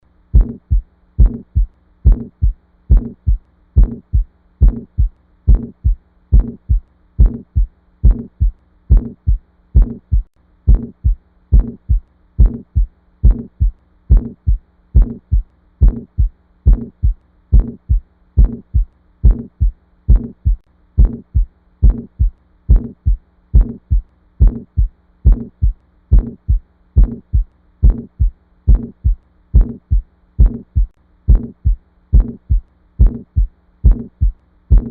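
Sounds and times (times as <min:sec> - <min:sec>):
steady low hum: 0:00.0 - 0:34.9
heartbeat lub-dub: 0:00.3 - 0:34.9.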